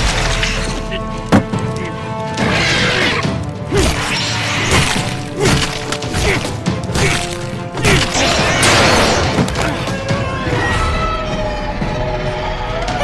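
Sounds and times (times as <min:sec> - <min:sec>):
tense orchestral film score: 0:00.0 - 0:13.0.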